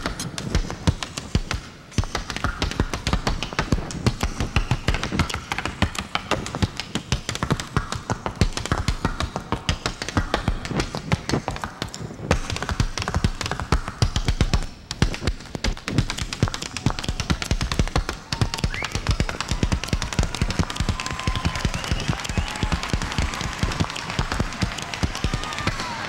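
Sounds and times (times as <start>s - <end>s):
tap shoes on wooden floor: 0.0s - 26.0s.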